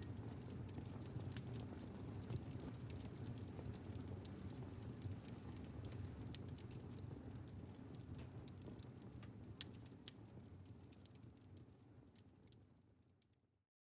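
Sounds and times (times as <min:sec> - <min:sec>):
wood fire crackling and popping: 0:00.0 - 0:13.3.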